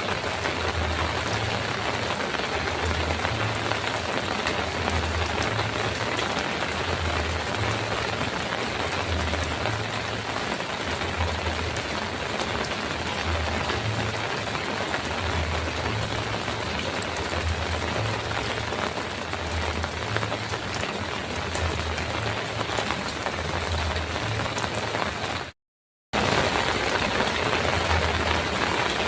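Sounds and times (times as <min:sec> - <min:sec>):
heavy rain on a metal roof: 0:00.0 - 0:29.0.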